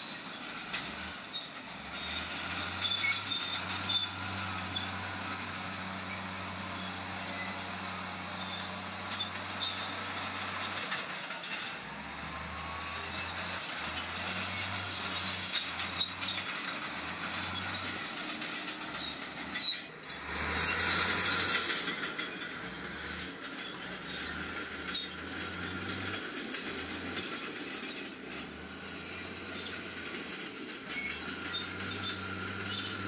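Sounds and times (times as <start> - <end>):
bulldozer diesel engine humming: 0.0 - 33.0
rushing grinding noise: 0.0 - 33.0
steel tracks clanking: 0.0 - 33.0.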